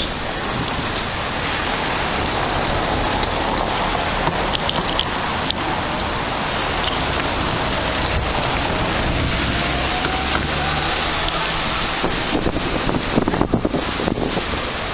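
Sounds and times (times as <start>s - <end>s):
fountain water splashing into basin: 0.0s - 14.9s.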